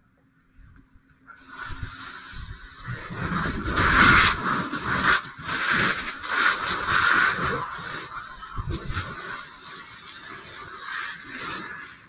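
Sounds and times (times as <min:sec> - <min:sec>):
fire hose water spraying: 0:01.4 - 0:12.0.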